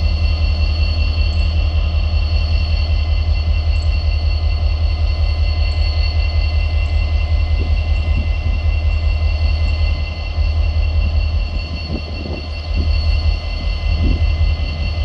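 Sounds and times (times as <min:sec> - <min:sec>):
diesel locomotive engine rumbling: 0:00.0 - 0:15.0
thin high whine: 0:00.0 - 0:15.0.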